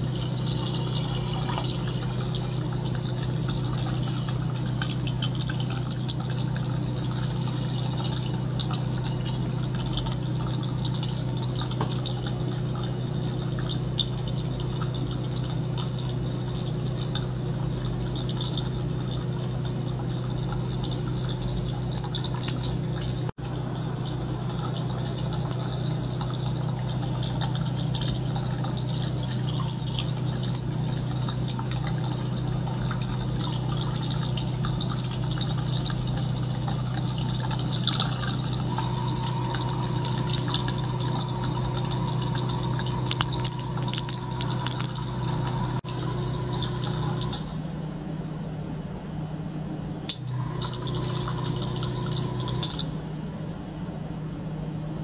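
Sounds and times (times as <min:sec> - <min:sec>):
dripping ticks: 0:00.0 - 0:47.6, 0:50.1 - 0:53.0
water trickling and bubbling: 0:00.0 - 0:47.9, 0:50.1 - 0:53.1
pump humming: 0:00.0 - 0:54.2.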